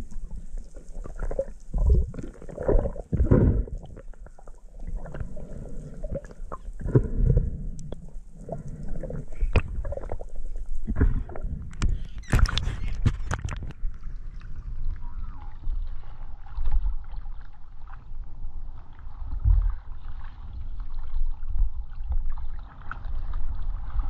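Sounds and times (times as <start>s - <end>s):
underwater clicks and crackles: 0.0s - 24.0s
water sloshing and lapping: 0.0s - 24.0s.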